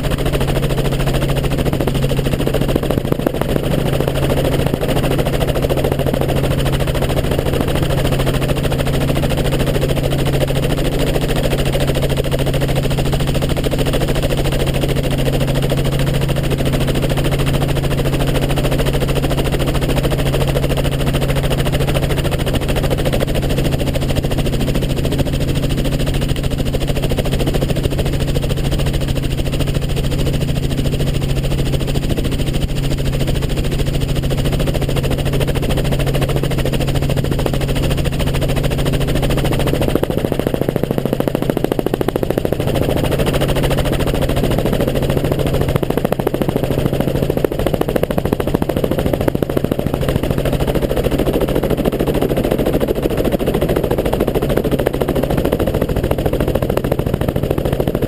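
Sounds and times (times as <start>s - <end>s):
helicopter engine hum: 0.0s - 58.0s
helicopter rotor chopping: 0.0s - 58.0s.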